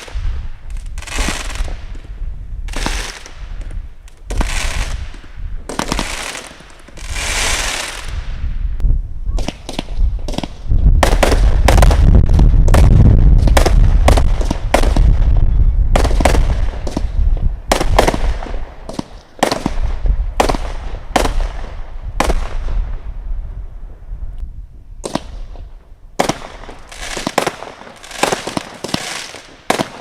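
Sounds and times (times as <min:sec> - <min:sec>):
firework shots cracking: 0:00.0 - 0:02.1, 0:02.7 - 0:08.3, 0:09.4 - 0:15.3, 0:15.9 - 0:23.0, 0:25.0 - 0:30.0.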